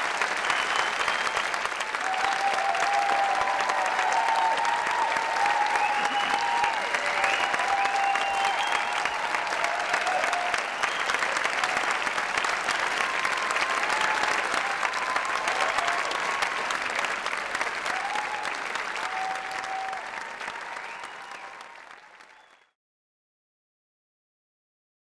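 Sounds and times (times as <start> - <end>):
audience applauding: 0.0 - 22.8
people whooping: 0.1 - 22.6.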